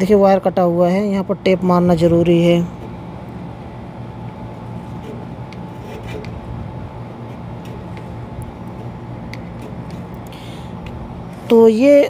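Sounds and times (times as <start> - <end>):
air-conditioning hum: 0.0 - 12.0.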